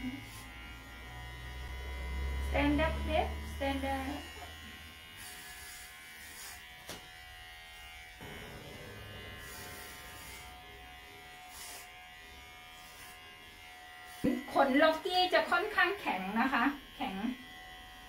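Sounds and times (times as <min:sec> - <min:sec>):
pet hair clippers buzzing: 0:00.0 - 0:18.0.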